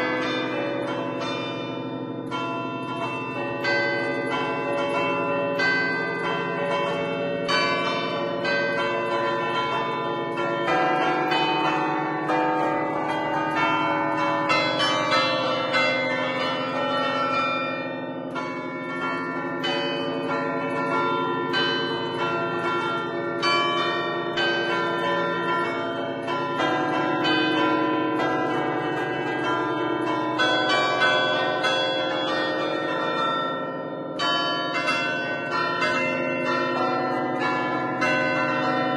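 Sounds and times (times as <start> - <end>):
church bells ringing a tune: 0.0 - 38.9.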